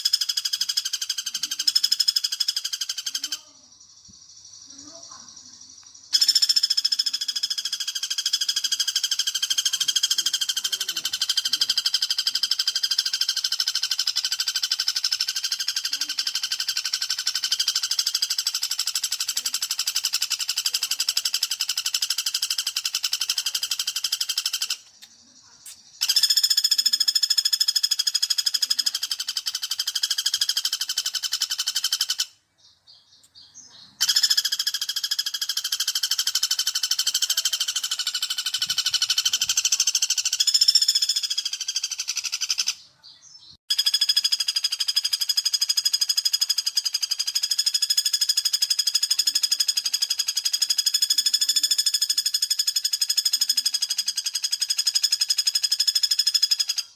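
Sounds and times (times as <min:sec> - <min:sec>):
woodpecker trilling call: 0:00.0 - 0:56.9.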